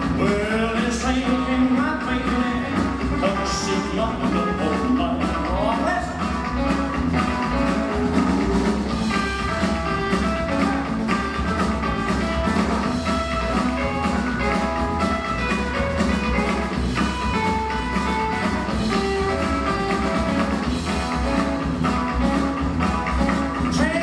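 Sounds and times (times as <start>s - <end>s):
acoustic guitar: 0.0s - 24.0s
drums: 0.0s - 24.0s
upright bass: 0.0s - 24.0s
electric guitar lead: 1.1s - 24.0s.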